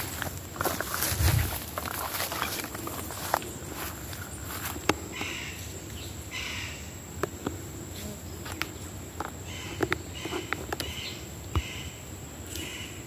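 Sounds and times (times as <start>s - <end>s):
insects chirping in bursts: 0.0s - 13.0s.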